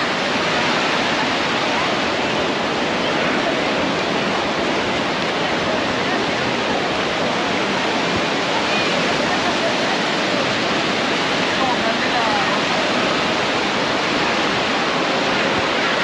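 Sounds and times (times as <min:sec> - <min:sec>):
ocean surf waves breaking: 0:00.0 - 0:16.0.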